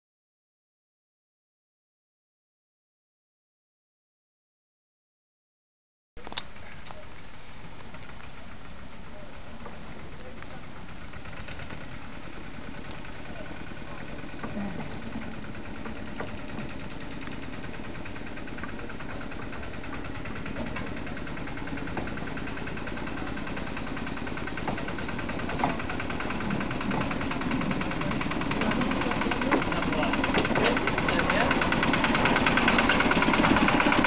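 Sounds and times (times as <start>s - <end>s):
wheels clicking on track: 6.2s - 34.0s
diesel locomotive chugging: 6.4s - 34.0s.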